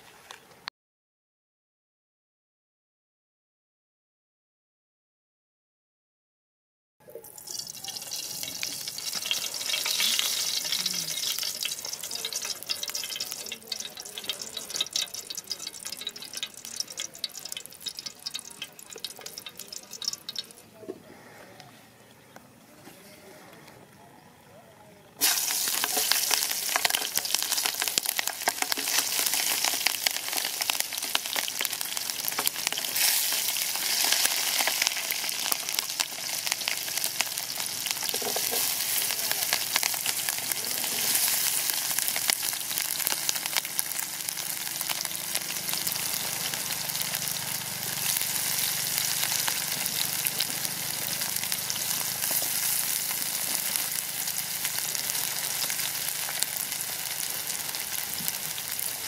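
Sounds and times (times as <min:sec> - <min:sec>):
vegetables sizzling in hot oil: 0:07.2 - 0:20.7, 0:25.2 - 0:59.0.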